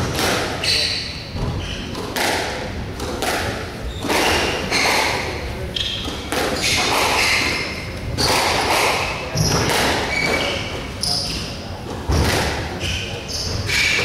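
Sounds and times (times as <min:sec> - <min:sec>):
squash ball hitting rackets and walls: 0:00.0 - 0:14.0
shoes squeaking on wooden floor: 0:00.6 - 0:02.0, 0:03.8 - 0:14.0.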